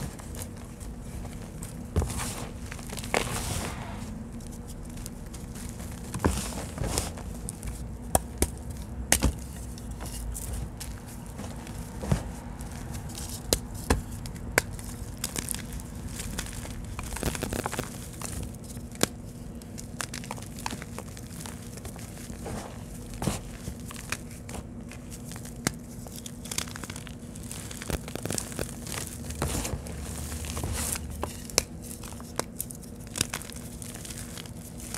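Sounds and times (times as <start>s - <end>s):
hands crunching dry powder blocks: 0.0s - 34.9s.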